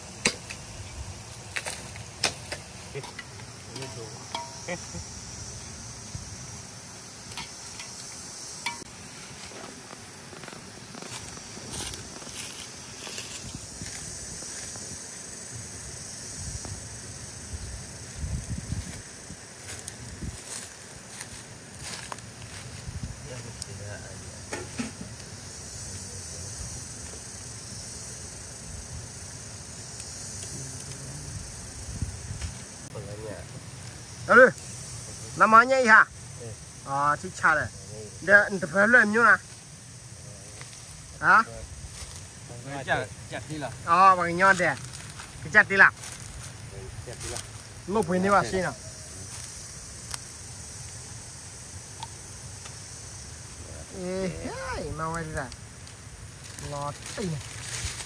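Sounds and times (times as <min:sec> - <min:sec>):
even hiss: 0:00.0 - 0:58.0
insect chorus: 0:00.0 - 0:58.0.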